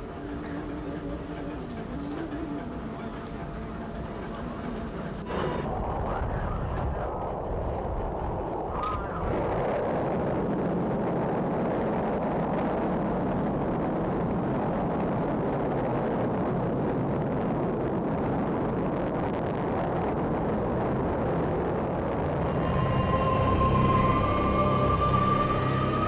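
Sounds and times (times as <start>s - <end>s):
rocket engines rumbling: 0.0s - 26.0s.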